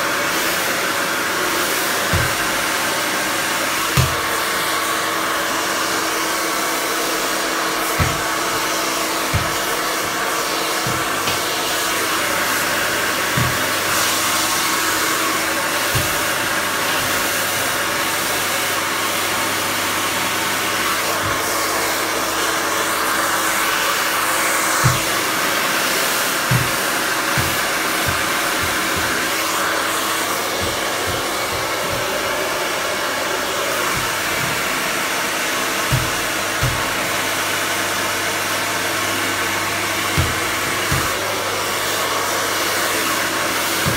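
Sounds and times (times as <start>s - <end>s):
hair dryer running: 0.0s - 43.9s.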